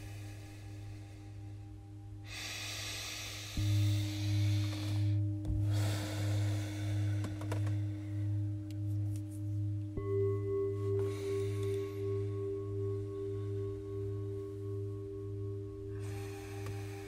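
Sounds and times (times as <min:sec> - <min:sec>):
higher-pitched bowl ringing: 0:00.0 - 0:17.0
metal singing bowls ringing: 0:00.0 - 0:17.0.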